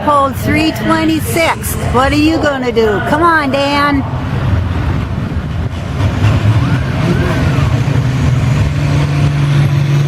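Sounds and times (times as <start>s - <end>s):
tractor engine droning: 0.0s - 10.0s.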